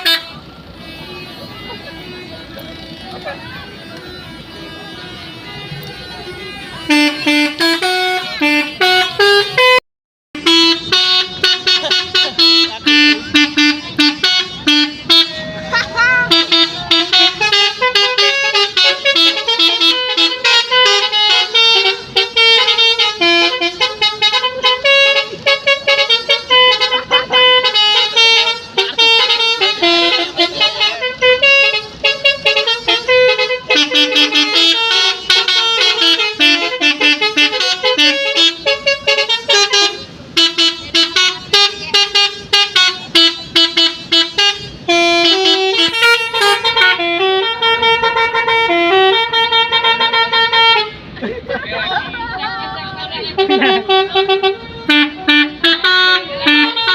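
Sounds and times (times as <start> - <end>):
multi-tone bus horns melody: 0.0 - 56.9.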